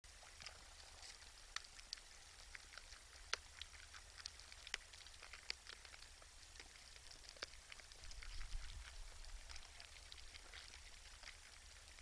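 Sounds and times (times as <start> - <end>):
deer feeding crunches: 0.1 - 12.0
low steady hum: 0.1 - 12.0.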